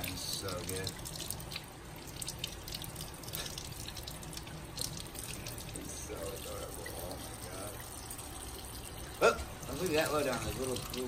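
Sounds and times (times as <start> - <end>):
faucet water splashing into sink: 0.0 - 11.0.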